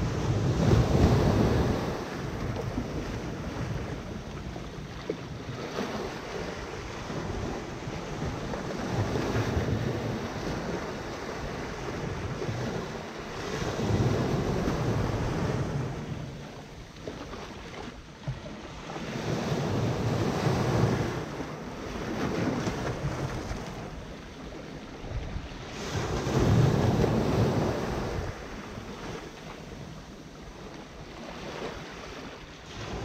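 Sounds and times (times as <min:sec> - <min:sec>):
waves washing on sand: 0:00.0 - 0:33.0
wind buffeting microphone: 0:00.0 - 0:33.0.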